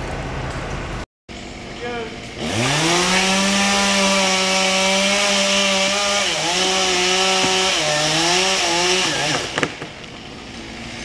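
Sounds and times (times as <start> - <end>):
chainsaw cutting wood: 1.4 - 11.0.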